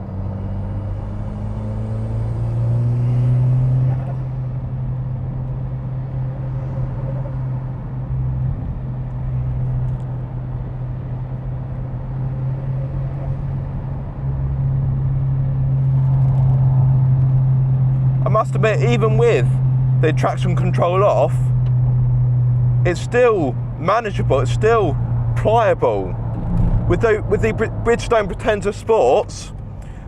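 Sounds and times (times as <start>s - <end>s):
car engine from inside cabin: 0.0s - 30.0s.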